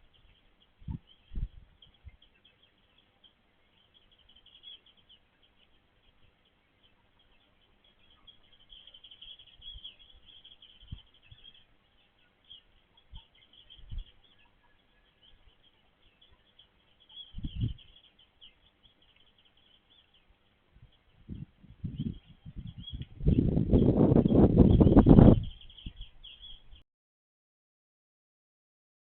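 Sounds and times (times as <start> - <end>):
small birds chirping: 0.0 - 26.8.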